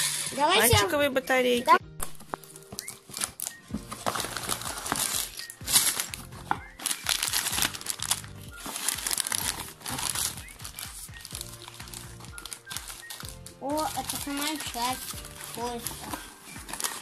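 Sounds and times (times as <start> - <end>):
background music: 0.0 - 17.0
plastic bags crinkling: 2.5 - 17.0.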